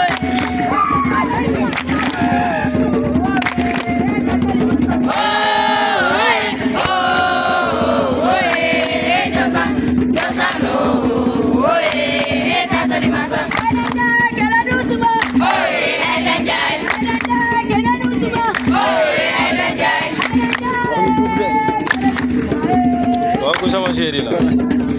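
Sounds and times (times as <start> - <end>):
group singing and chanting: 0.0 - 24.9
percussive beats: 0.0 - 24.9.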